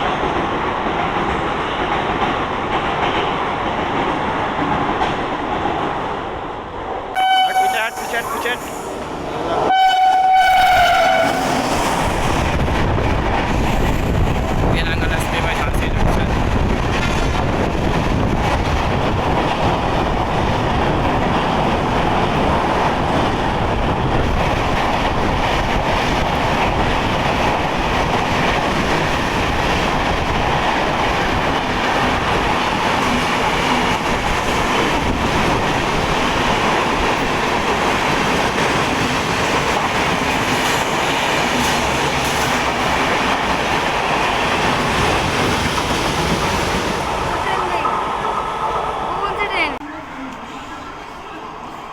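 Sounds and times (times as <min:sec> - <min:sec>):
train wheels rattling on rails: 0:00.0 - 0:49.8.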